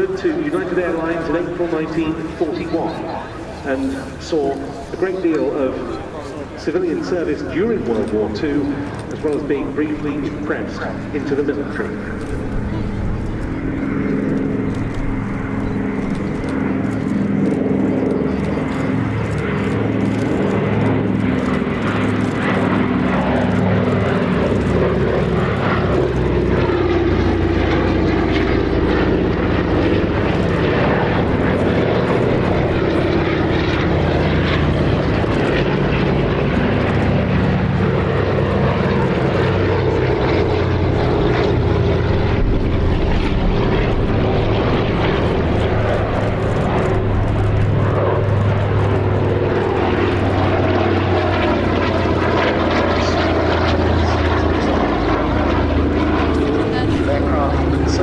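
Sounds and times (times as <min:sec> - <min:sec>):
propeller planes droning past: 0:00.0 - 0:58.0.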